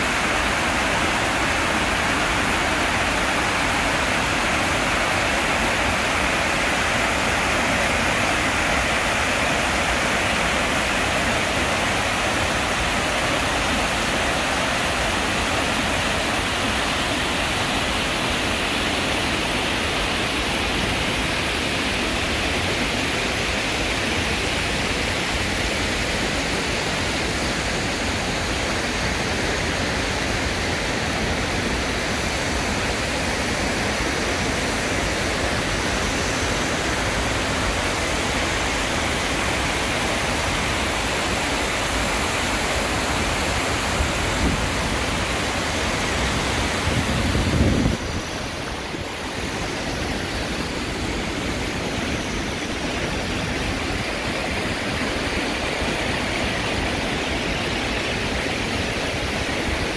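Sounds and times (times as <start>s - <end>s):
water rushing over weir: 0.0s - 59.9s.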